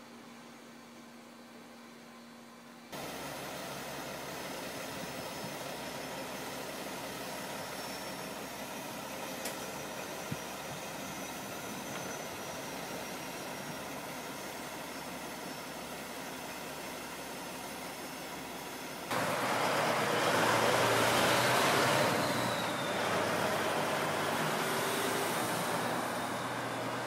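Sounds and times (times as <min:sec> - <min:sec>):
truck engine idling: 0:03.0 - 0:27.0.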